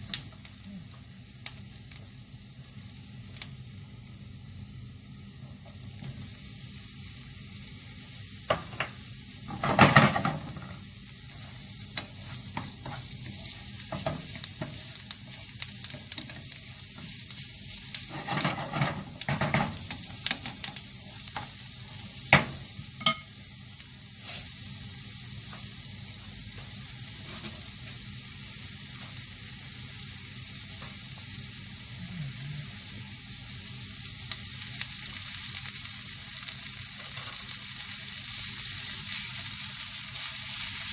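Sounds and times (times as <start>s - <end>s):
rice sizzling in a hot pan: 0.0s - 40.9s.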